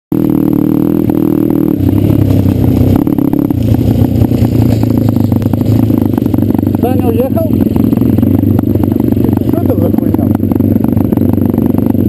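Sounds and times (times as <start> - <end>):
pit bike engine running: 0.1 - 12.0.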